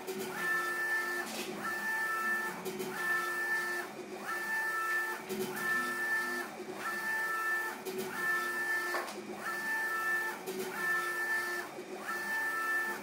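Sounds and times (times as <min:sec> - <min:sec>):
printer carriage whine: 0:00.0 - 0:13.0.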